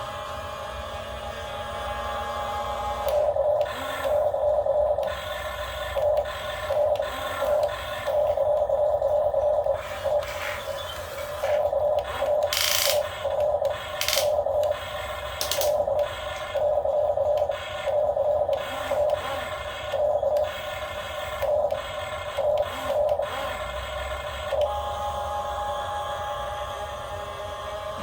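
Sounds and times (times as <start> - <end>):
small electric motor whirring: 0.0 - 28.0.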